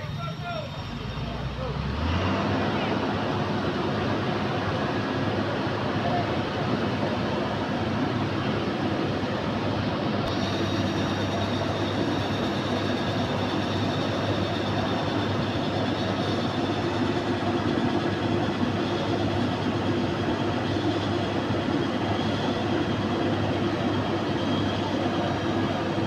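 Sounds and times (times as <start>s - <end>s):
truck engines running: 0.0s - 26.0s.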